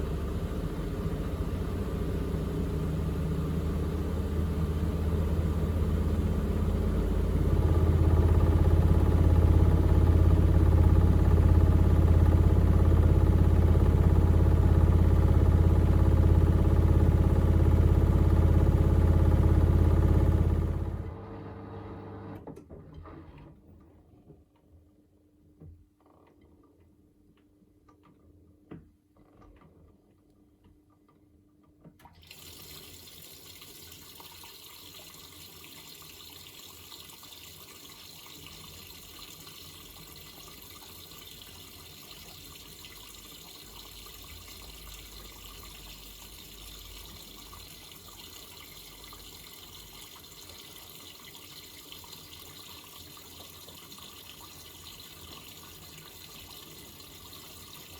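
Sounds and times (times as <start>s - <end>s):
washing machine low hum: 0.0s - 22.4s, 32.0s - 57.9s
water rushing into washing machine: 0.0s - 23.4s, 32.0s - 57.9s.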